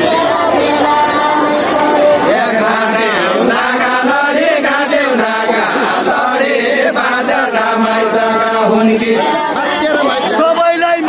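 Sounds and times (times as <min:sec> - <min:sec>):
group singing folk song: 0:00.0 - 0:11.0.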